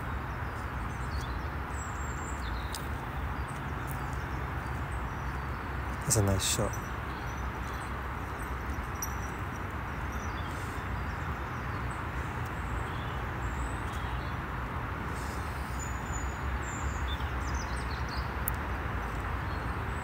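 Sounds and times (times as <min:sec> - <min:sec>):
motorway traffic rumble: 0:00.0 - 0:20.0.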